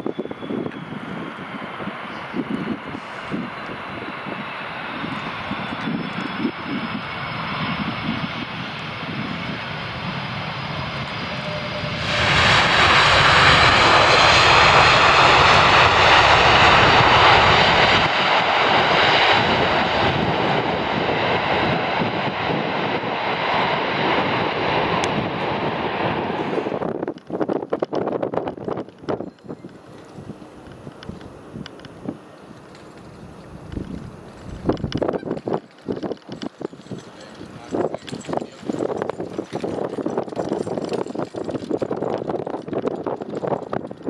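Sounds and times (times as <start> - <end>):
jet engines roaring: 0.0 - 40.3.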